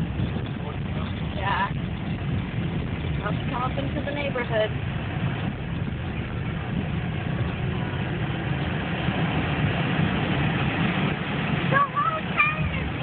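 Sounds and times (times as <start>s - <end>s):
low engine rumble: 0.0s - 13.0s
road and tyre noise: 0.0s - 13.0s.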